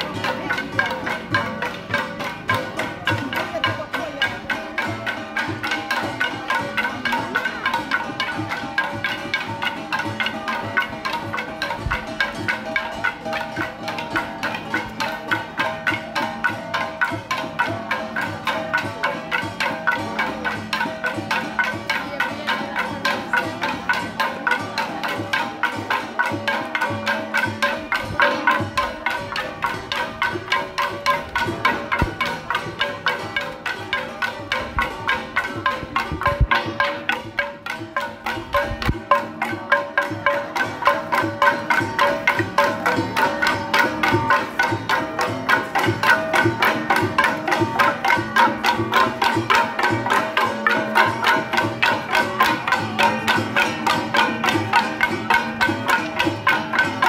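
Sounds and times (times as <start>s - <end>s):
fast percussion beat: 0.0s - 57.0s.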